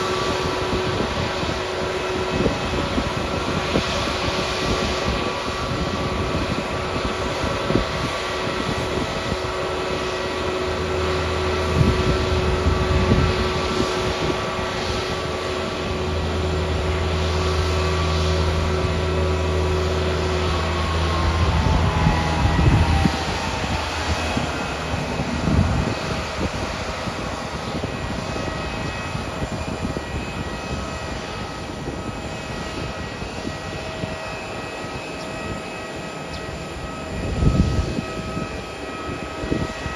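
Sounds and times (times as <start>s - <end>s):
engine spooling down: 0.0s - 39.8s
jet airliner whine: 0.0s - 39.9s.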